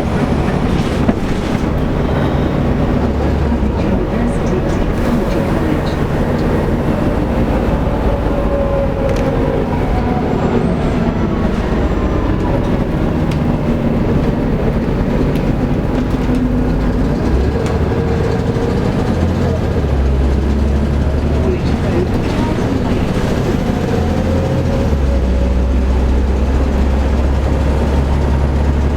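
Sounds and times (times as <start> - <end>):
bus engine drone: 0.0 - 28.9
road and body noise: 0.0 - 28.9.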